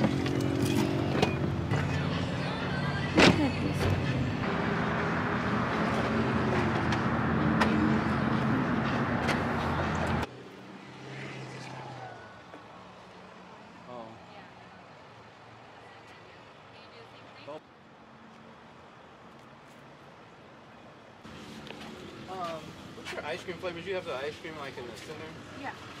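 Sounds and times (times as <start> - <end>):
car and road noise: 0.0 - 26.0
outdoor noise: 0.0 - 26.0.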